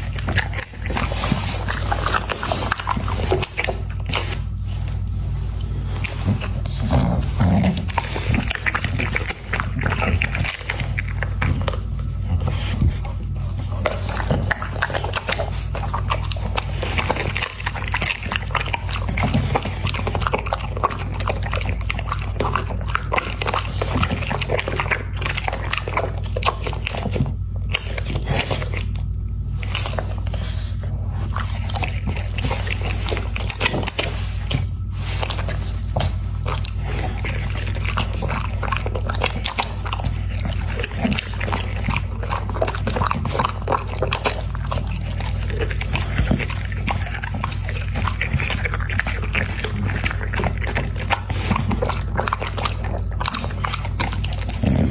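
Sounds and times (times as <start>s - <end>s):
dog chewing food: 0.0s - 54.9s.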